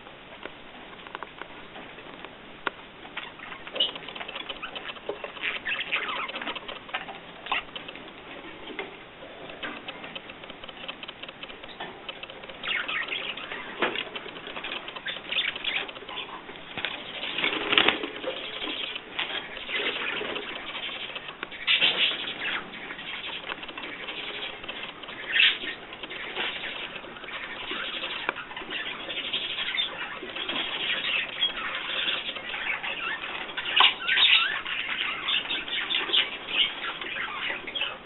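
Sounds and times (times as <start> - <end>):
scattered taps clicks and rustles: 0.0 - 38.0
birds flapping wings: 3.3 - 8.7, 9.5 - 38.0.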